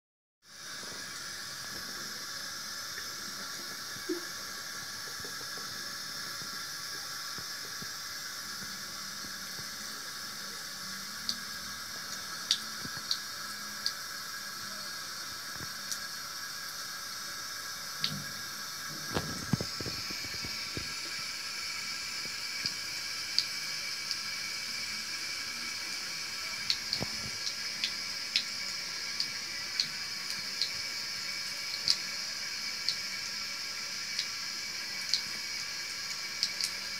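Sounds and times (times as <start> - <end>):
water running from a tap: 0.4 - 36.9.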